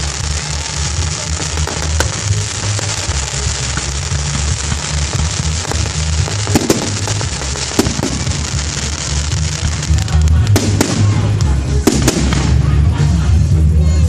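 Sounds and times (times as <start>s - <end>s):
fireworks bangs: 0.0s - 13.1s
fireworks crackling: 0.0s - 14.0s
music with pulsing bass: 0.0s - 14.0s.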